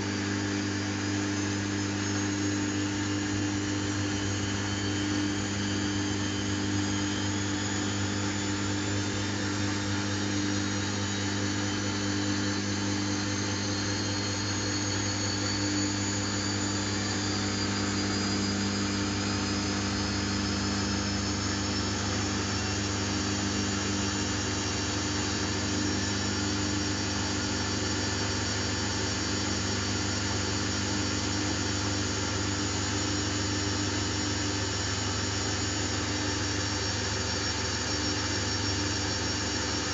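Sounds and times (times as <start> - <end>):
washing machine spinning with whine: 0.0 - 39.9.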